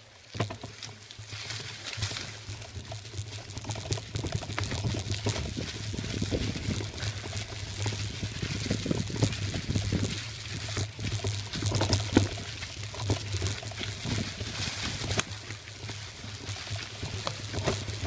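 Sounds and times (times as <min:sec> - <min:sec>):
bike rattling over bumps: 0:00.0 - 0:18.0
tyres crackling through dry leaves: 0:00.0 - 0:18.0.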